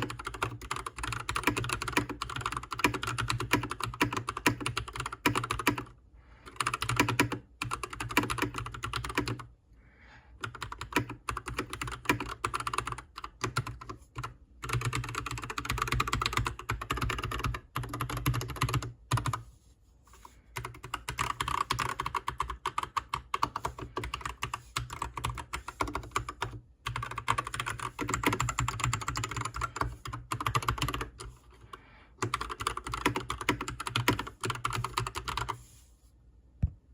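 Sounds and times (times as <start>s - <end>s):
mechanical keyboard typing: 0.0s - 9.5s, 10.4s - 19.4s, 20.6s - 35.6s.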